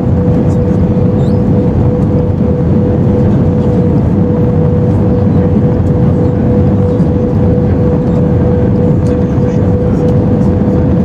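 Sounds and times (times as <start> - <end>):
airflow and jet engines roaring: 0.0 - 11.0
steady hum: 0.0 - 11.0.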